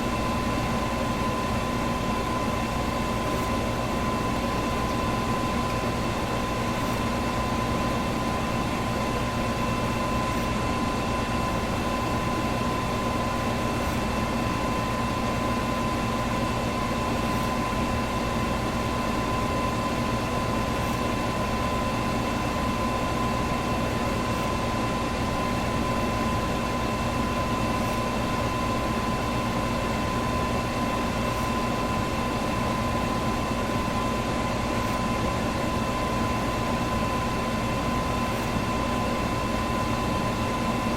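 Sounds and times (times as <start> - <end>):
electric fan running: 0.0 - 40.9.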